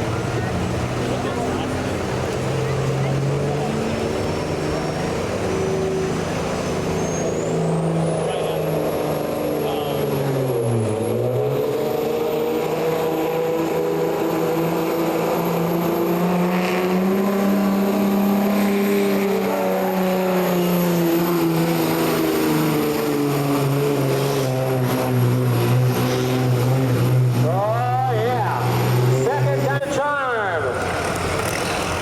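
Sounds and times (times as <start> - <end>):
engine running hard under load: 0.0 - 32.0.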